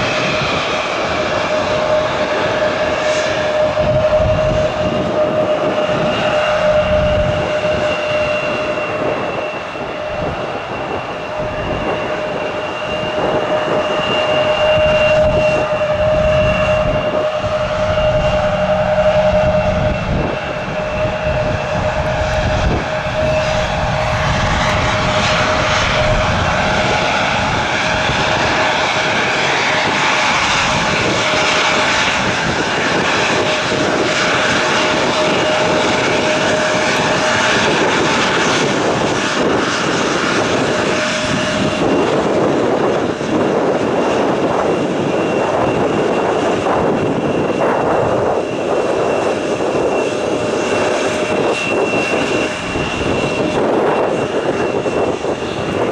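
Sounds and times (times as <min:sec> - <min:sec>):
airliner engines whining: 0:00.0 - 0:55.9
wind buffeting microphone: 0:00.0 - 0:55.9.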